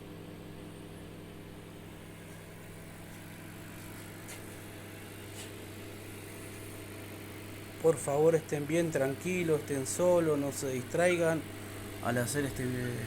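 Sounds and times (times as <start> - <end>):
microwave oven humming: 0.0 - 13.0
turntable motor: 2.2 - 13.0.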